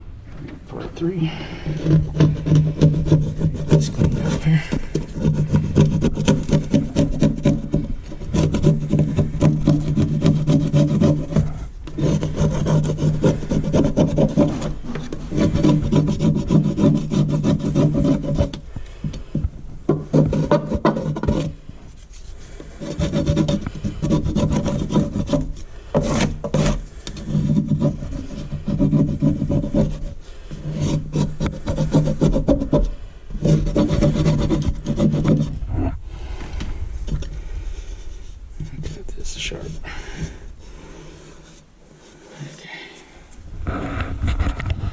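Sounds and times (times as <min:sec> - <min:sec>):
hand scraping sink drain part: 0:00.4 - 0:42.8.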